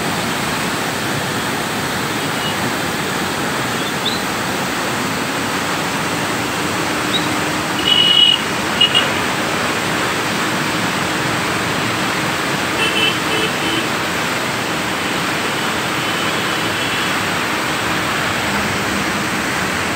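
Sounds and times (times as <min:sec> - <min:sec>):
floodwater rushing through gates: 0:00.0 - 0:19.9.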